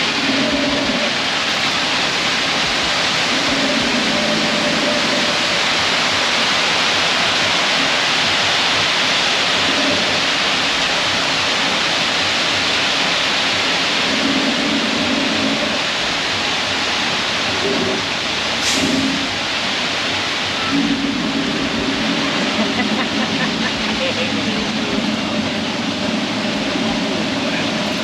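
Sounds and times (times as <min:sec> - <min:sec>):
concrete mixer rushing noise: 0:00.0 - 0:28.0
engine hum: 0:00.0 - 0:28.0.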